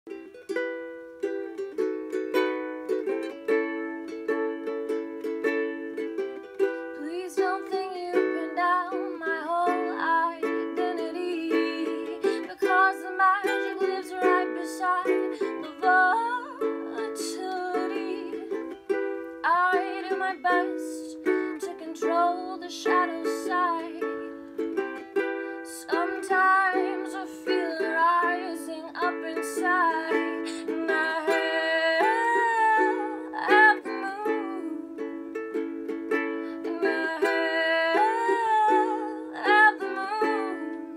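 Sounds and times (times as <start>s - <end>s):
ukulele strumming: 0.1s - 40.9s
woman singing: 6.6s - 35.1s, 36.2s - 40.9s.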